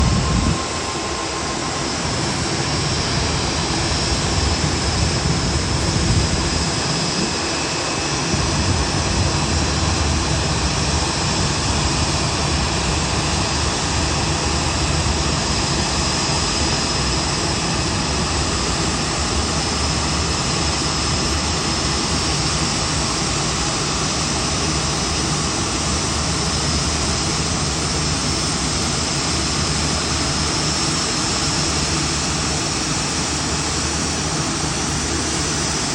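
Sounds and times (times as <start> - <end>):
jet engine rush and whine: 0.0 - 35.9.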